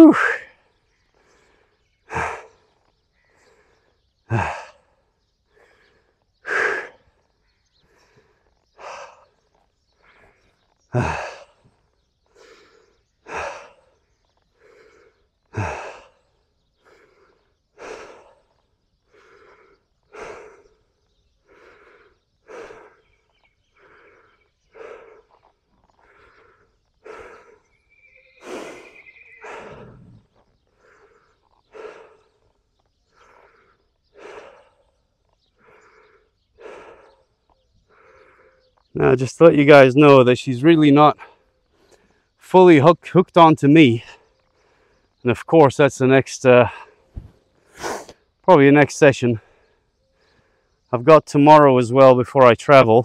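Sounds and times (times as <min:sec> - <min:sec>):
heavy breathing: 0:00.0 - 0:40.3, 0:43.8 - 0:45.3, 0:46.0 - 0:48.4, 0:49.2 - 0:50.9.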